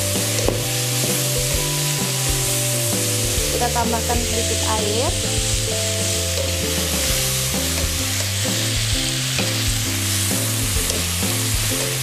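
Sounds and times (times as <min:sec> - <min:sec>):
vegetables sizzling in oil: 0:00.0 - 0:12.0
wooden spatula scraping wok: 0:00.0 - 0:12.0.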